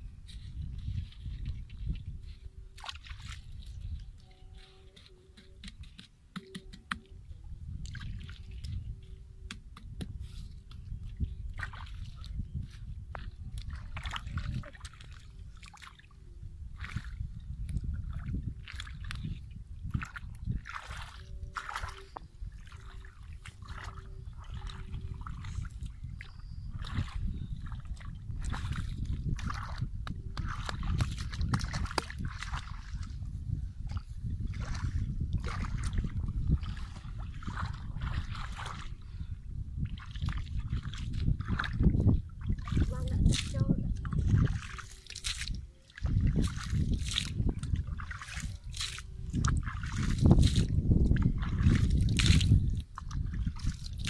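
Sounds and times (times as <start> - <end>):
muddy water splashing: 0.4 - 54.0.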